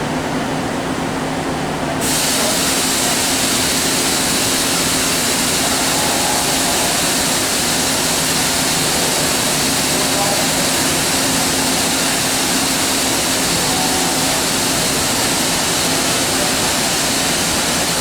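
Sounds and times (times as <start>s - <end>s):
loud steady hiss: 2.0s - 18.0s.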